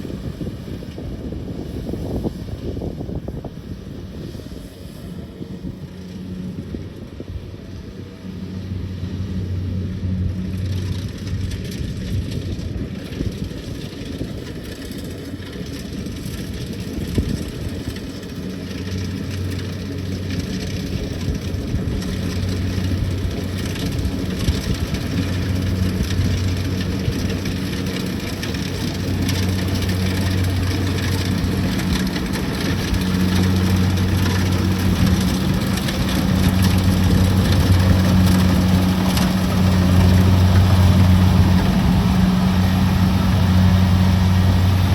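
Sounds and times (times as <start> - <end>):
diesel engine hum: 0.0 - 44.9.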